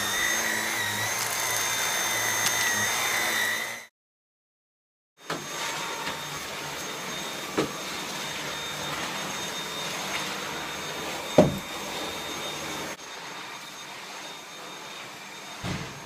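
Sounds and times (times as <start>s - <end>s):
vacuum cleaner motor whine: 0.0s - 3.9s, 5.2s - 16.0s.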